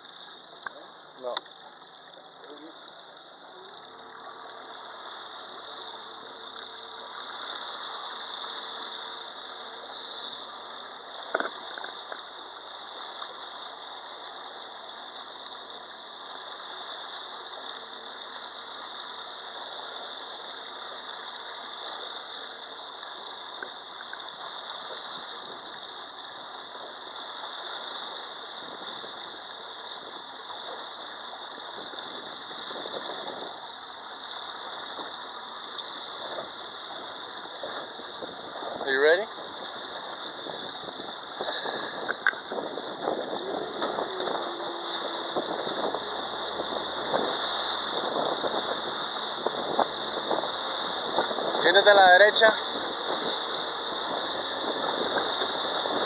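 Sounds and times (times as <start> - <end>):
outboard motor running: 0.0 - 56.0
rushing water: 0.0 - 56.0.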